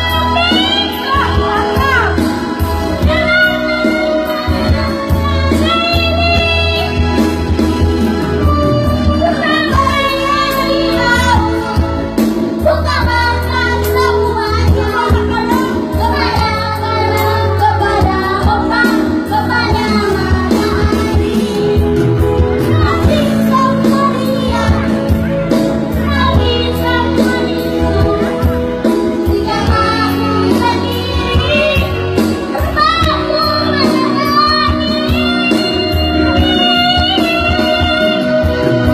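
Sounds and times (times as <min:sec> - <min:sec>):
instrumental backing music: 0:00.0 - 0:38.9.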